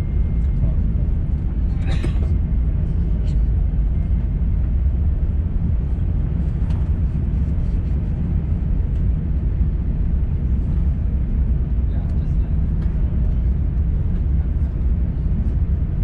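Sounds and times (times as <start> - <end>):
aircraft cabin rumble taxiing: 0.0 - 16.0.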